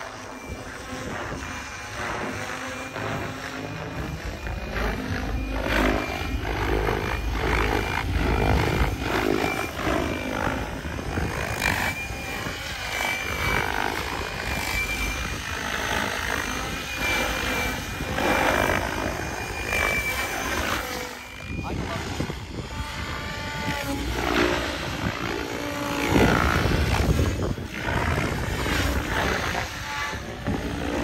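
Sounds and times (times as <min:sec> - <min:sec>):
helicopter rotor blades rushing: 0:00.0 - 0:31.0
high-pitched motor and gear whine: 0:00.0 - 0:31.0.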